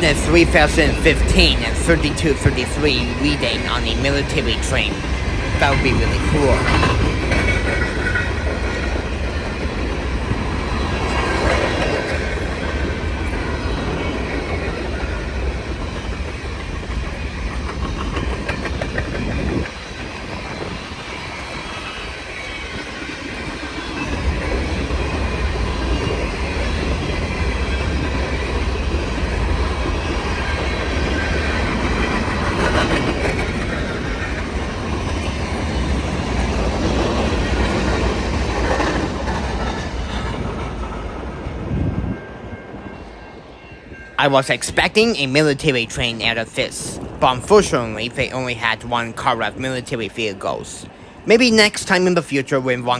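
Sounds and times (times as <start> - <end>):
low train rumble: 0.0 - 52.9.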